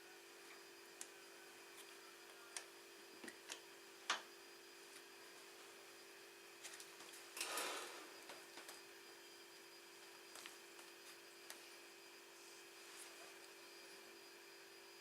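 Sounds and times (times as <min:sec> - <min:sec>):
steady faint hum: 0:00.0 - 0:15.0.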